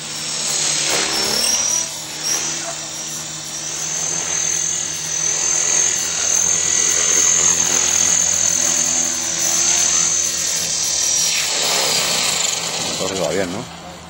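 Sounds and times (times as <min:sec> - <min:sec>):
model helicopter motor whine: 0:00.0 - 0:14.0
spinning rotor hum: 0:00.0 - 0:14.0.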